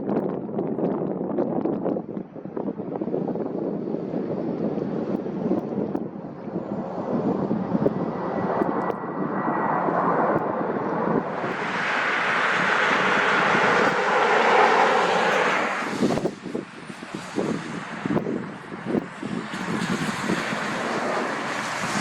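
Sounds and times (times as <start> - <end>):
wind on microphone: 0.0 - 22.0
aircraft engine noise: 2.2 - 22.0.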